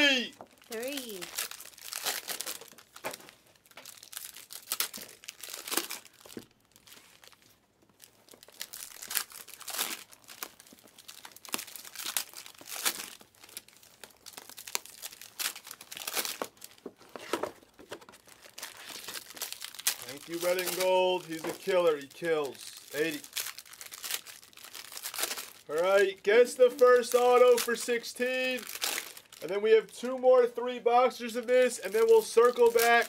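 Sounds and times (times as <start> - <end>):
card wrappers crinkling and tearing: 0.0 - 33.0.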